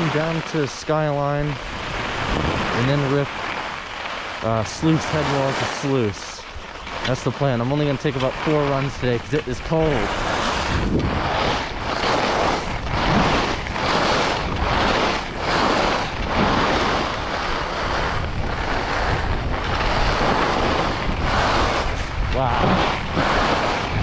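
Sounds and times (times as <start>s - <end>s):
skis hissing and scraping on snow: 0.0s - 24.0s
wind rushing over microphone: 0.0s - 24.0s.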